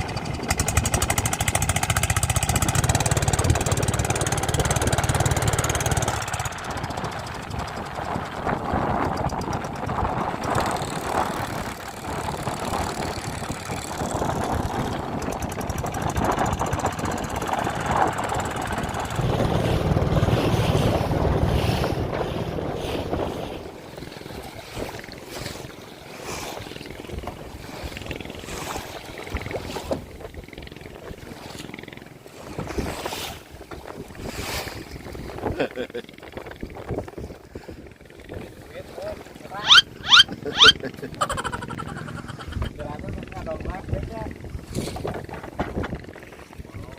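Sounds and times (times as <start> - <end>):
boat engine running: 0.0 - 46.9
wind buffeting microphone: 0.0 - 46.9.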